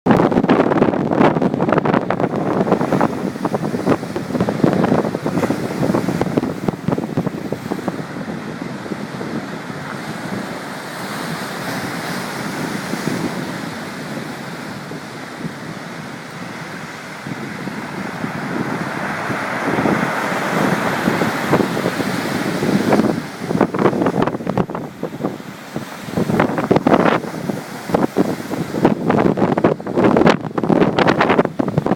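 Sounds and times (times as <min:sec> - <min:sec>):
wind gusts buffeting microphone: 0:00.0 - 0:31.9
ocean surf rushing: 0:00.1 - 0:31.9.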